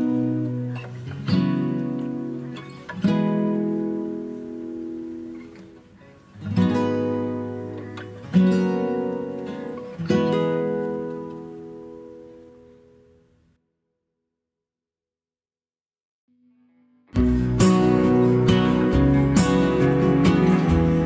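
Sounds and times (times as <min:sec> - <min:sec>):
acoustic guitar strumming chords: 0:00.0 - 0:13.2, 0:16.4 - 0:21.0.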